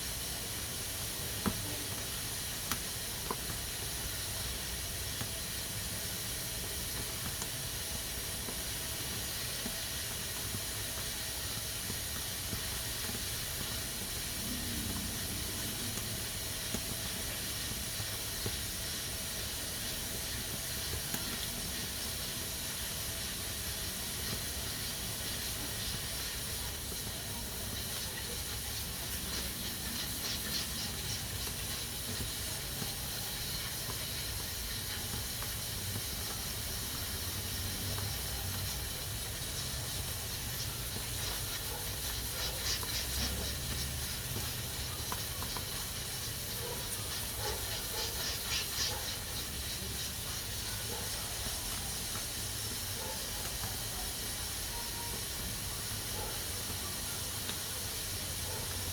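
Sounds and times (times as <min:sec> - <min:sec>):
pressure cooker steam hissing: 0:00.0 - 0:58.9.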